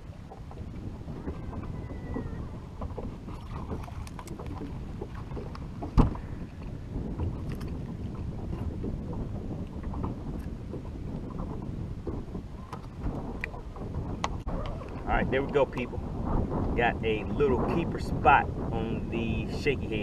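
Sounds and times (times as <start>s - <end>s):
water slapping against boat hull: 0.0s - 19.0s
wind on microphone: 0.0s - 20.0s.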